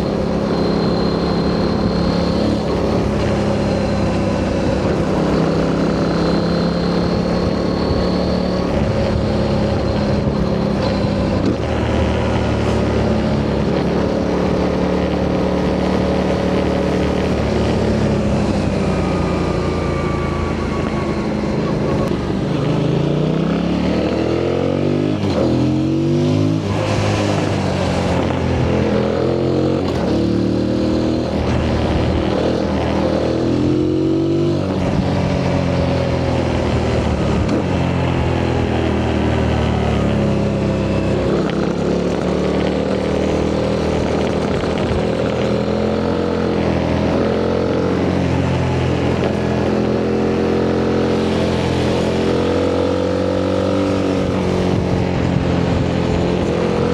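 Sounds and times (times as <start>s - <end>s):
motorcycle engine revving through gears: 0.0s - 56.9s.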